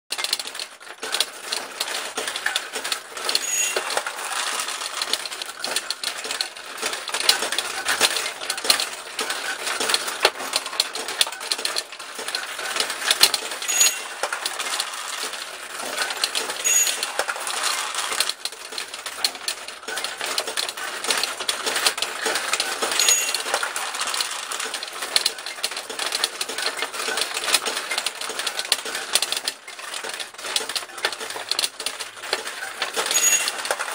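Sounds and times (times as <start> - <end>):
steel balls clattering in pachinko machine: 0.1 - 33.9.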